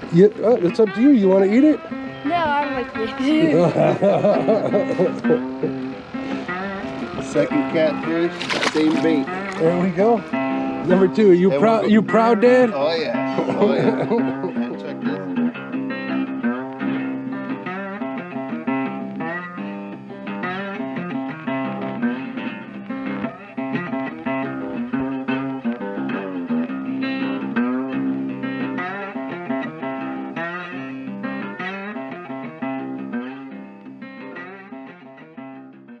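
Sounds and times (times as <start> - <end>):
plucked guitar music: 0.0 - 36.0.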